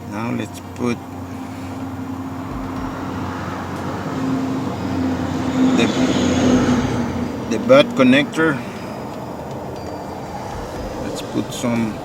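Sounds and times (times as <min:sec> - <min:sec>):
motor vehicle hum: 0:00.0 - 0:12.0
traffic background noise: 0:00.0 - 0:12.0.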